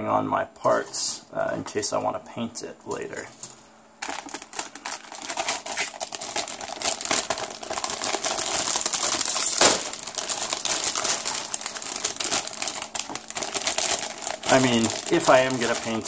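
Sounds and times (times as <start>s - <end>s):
plastic bags crinkling: 2.8s - 16.0s.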